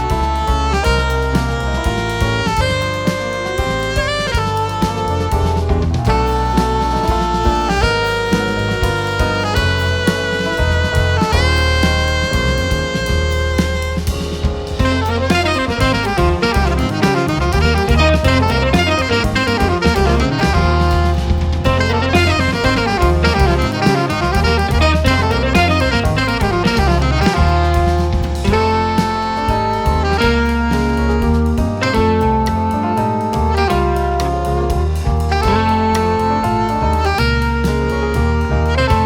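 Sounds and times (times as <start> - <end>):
bass: 0.0 - 39.0
drum kit: 0.0 - 39.0
saxophone playing lead: 0.0 - 39.0.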